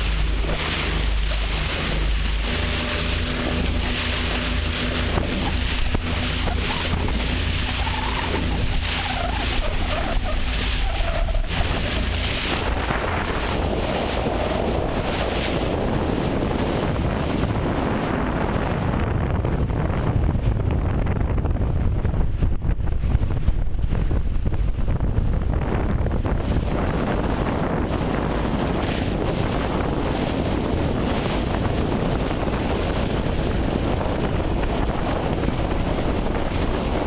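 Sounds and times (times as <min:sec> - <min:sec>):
sea water washing: 0:00.0 - 0:37.0
wind buffeting microphone: 0:00.0 - 0:37.0.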